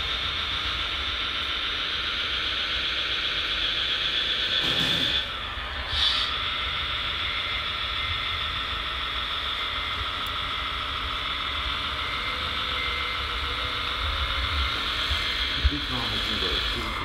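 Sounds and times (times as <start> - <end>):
toy truck electric drive whine: 0.0 - 17.0.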